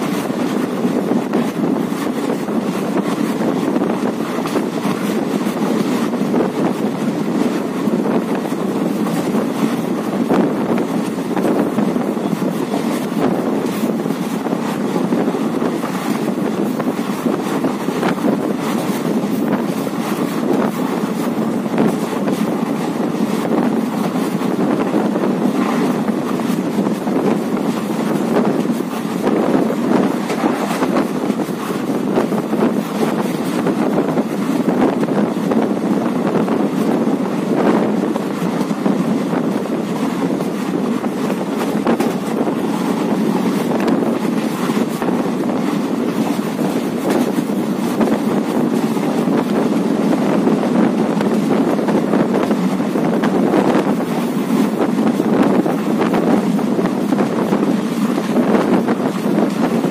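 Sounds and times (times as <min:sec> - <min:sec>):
moving passenger train rumble: 0:00.0 - 0:59.9
wind buffeting microphone: 0:00.0 - 0:59.9.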